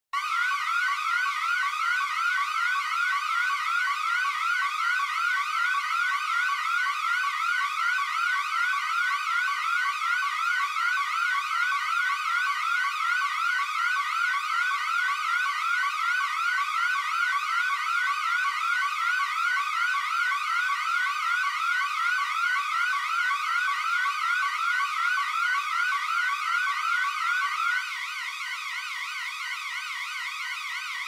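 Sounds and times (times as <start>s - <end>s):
electronic yelp siren: 0.2s - 31.0s.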